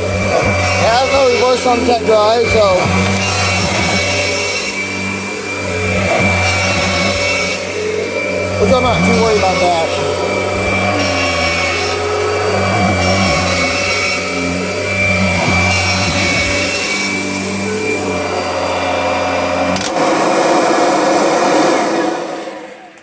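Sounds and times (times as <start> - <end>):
upright vacuum running: 0.0 - 23.0.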